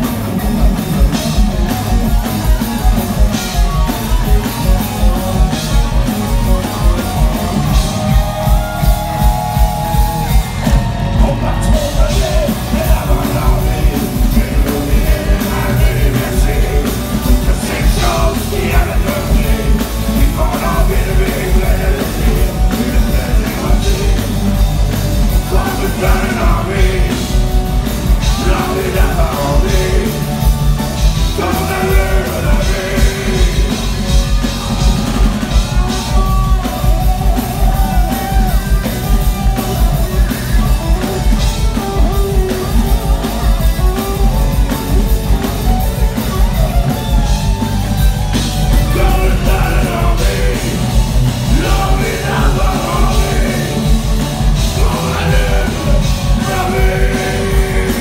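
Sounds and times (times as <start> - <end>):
electric guitar lead: 0.0 - 58.0
live rock band: 0.0 - 58.0.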